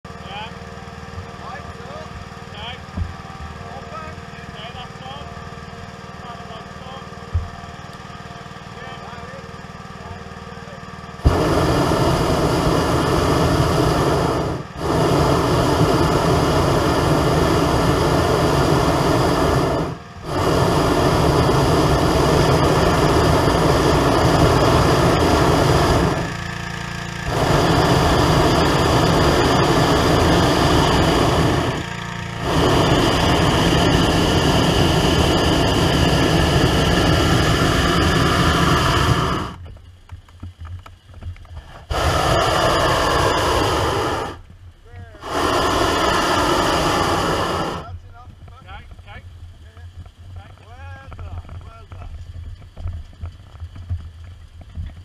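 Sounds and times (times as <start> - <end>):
steady engine hum: 0.0 - 55.0
propane burner blasts: 0.1 - 54.3.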